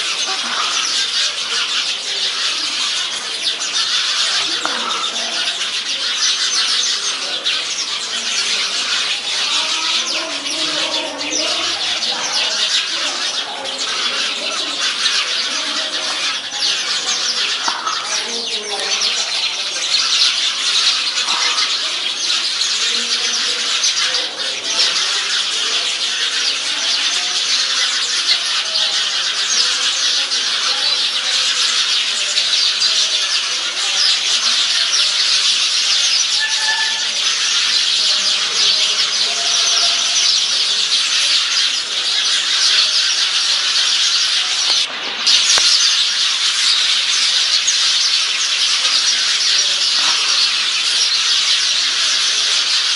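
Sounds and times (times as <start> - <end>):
many birds chattering: 0.0 - 52.9.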